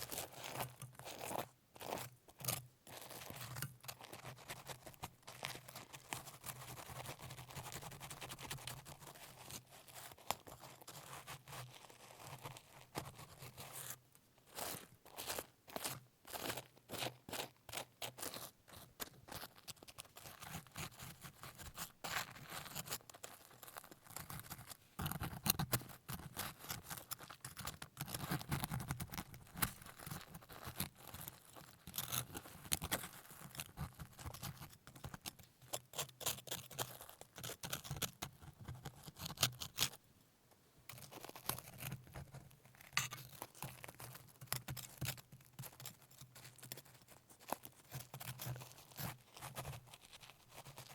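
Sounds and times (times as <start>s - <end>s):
crackly scraping and tearing: 9.1s - 40.0s, 40.9s - 50.9s.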